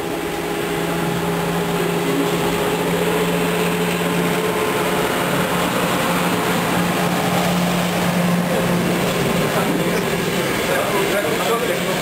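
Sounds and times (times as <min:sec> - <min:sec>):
low hum: 0:00.0 - 0:12.0
train wheels on rails: 0:00.9 - 0:12.0.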